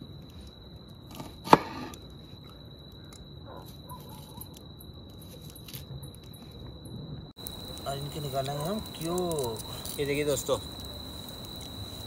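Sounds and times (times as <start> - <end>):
high insect tone: 0.0 - 12.0.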